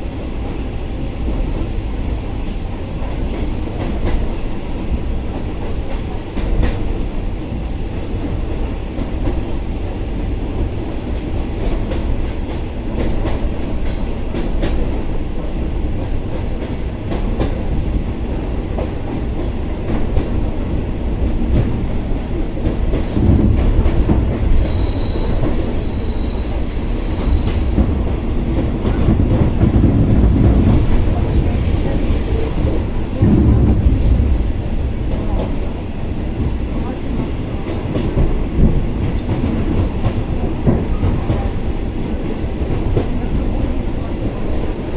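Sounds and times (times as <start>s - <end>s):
train carriage rumbling: 0.0s - 44.9s.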